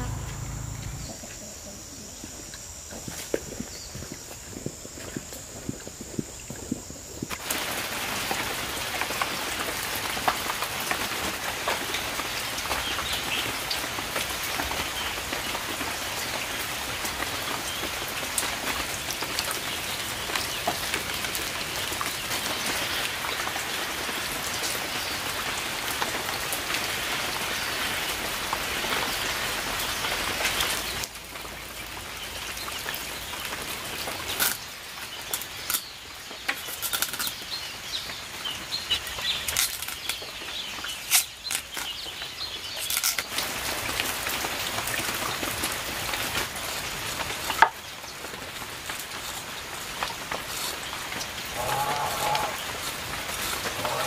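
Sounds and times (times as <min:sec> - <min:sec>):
rain pattering on puddles: 0:04.5 - 0:54.0.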